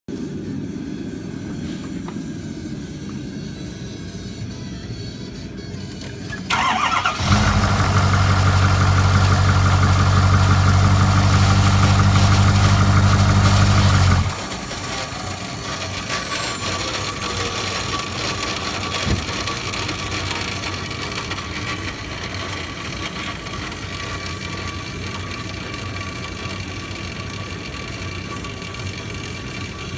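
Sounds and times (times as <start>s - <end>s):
diesel engine cranking and running: 5.9s - 29.9s.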